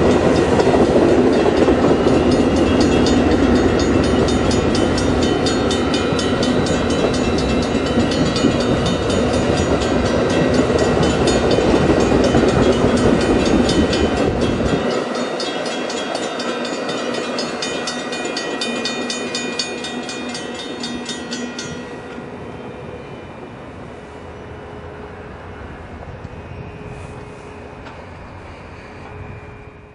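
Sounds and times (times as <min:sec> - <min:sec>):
deep train rumble: 0:00.0 - 0:29.9.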